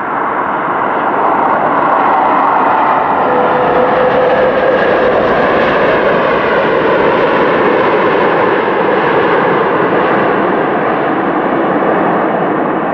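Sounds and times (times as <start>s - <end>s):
jet engine roar: 0.0s - 12.9s.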